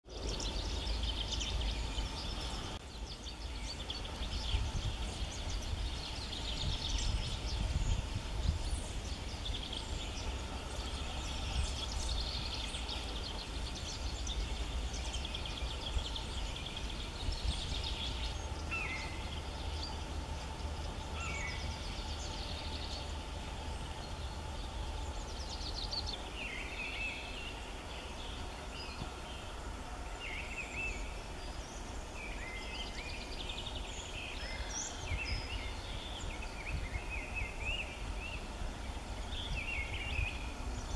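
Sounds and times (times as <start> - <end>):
small birds chirping and trilling: 0.0 - 40.9
steady low rumble: 0.1 - 40.9.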